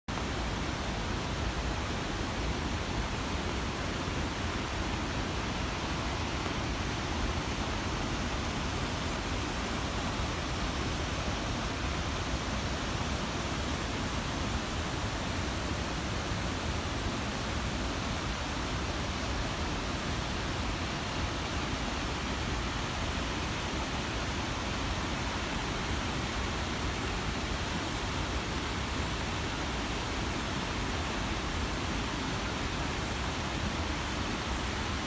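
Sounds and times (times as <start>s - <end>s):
waterfall rushing: 0.1s - 35.0s.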